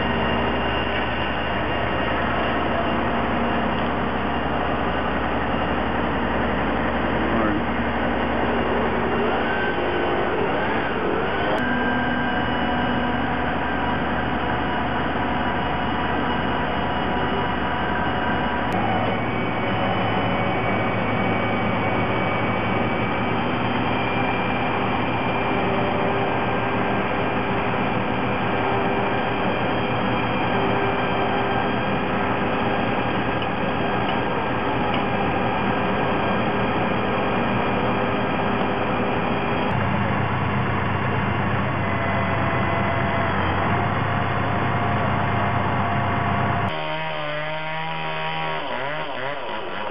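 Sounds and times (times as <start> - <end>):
diesel engine drone: 0.0 - 49.9.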